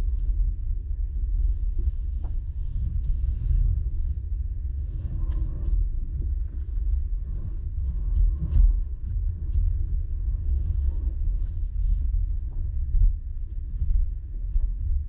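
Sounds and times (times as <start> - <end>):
car driving rumble inside cabin: 0.0 - 15.0
faint ticks and clicks: 0.0 - 15.0.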